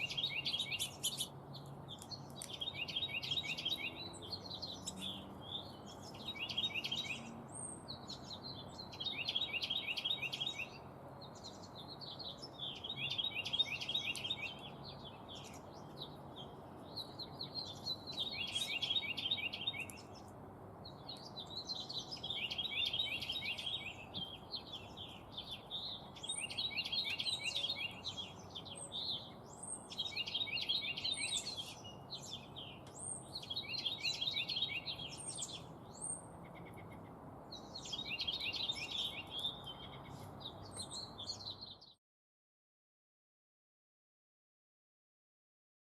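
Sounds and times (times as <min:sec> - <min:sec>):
songbird trilling: 0:00.0 - 0:10.8, 0:11.4 - 0:20.2, 0:21.0 - 0:41.5.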